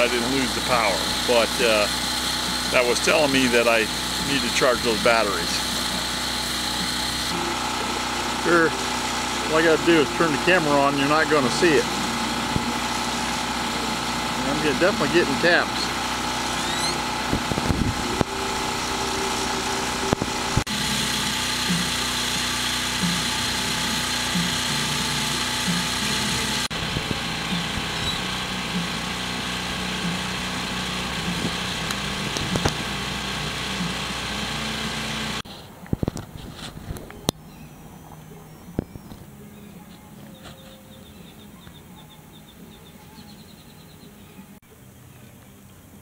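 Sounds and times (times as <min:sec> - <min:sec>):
generator engine humming: 0:00.0 - 0:46.0.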